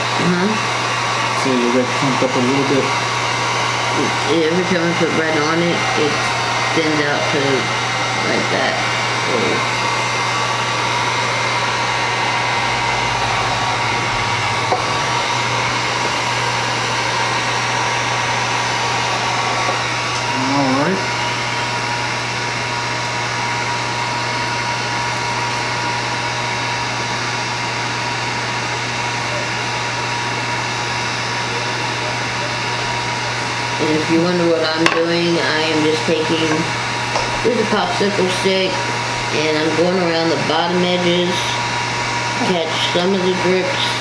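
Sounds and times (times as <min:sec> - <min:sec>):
heat gun blowing air: 0:00.0 - 0:44.0.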